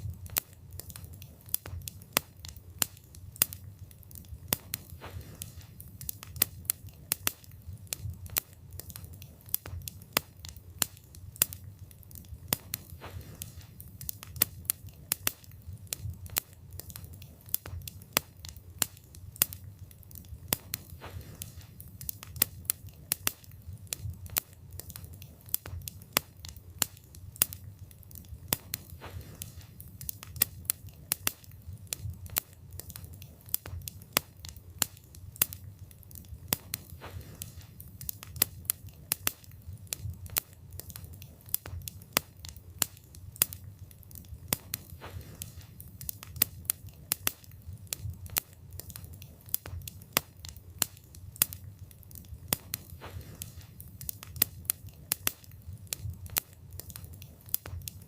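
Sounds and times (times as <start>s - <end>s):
fire flames rumbling: 0.0s - 58.0s
logs crackling and popping: 0.0s - 58.0s.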